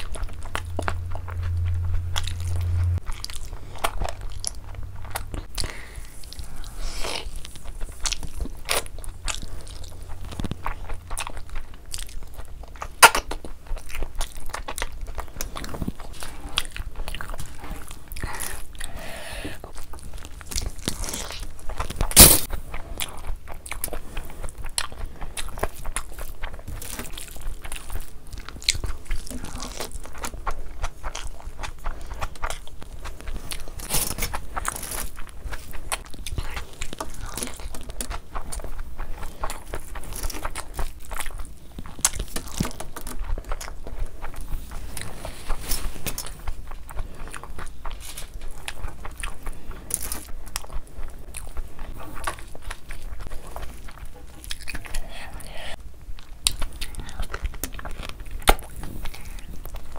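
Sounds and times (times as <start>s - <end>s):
chewing: 0.0s - 59.9s
fingers squishing food: 0.0s - 59.9s.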